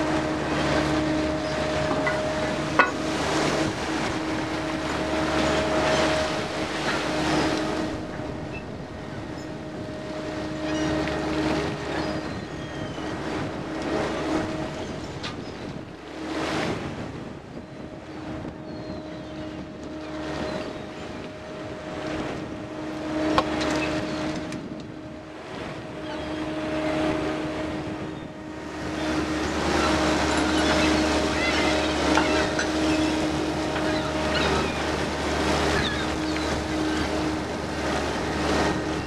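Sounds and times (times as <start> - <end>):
boat engine and machinery hum: 0.0 - 39.0
sea water splashing: 0.0 - 39.0
wind buffeting microphone: 0.0 - 39.0.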